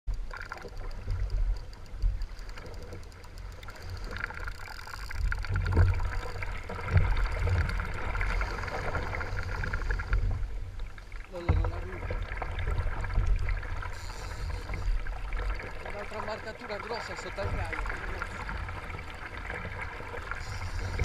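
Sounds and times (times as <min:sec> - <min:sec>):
water lapping against kayak hull: 0:00.1 - 0:21.0.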